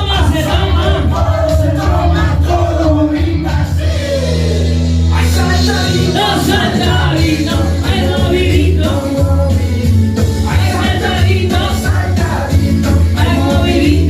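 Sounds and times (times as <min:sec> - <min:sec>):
heavy steady bass: 0:00.0 - 0:14.0
loud music with singing: 0:00.0 - 0:14.0.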